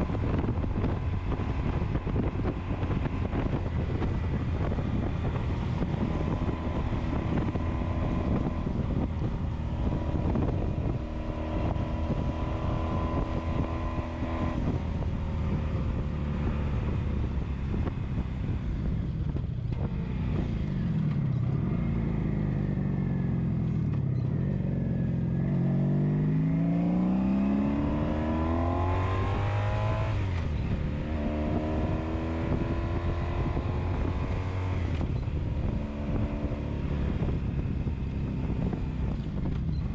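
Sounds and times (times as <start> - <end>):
motorcycle engine: 0.0 - 39.9
wind buffeting microphone: 0.0 - 39.9.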